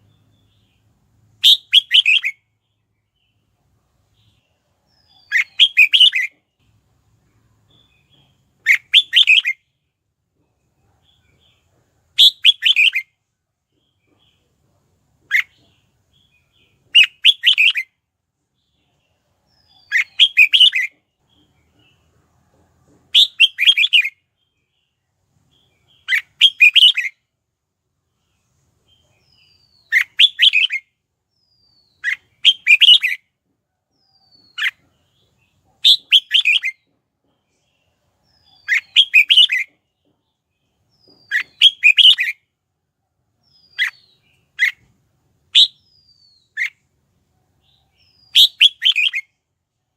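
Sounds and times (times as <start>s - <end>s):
bird singing bright phrases: 0.0s - 27.3s, 28.0s - 33.3s, 33.9s - 49.9s.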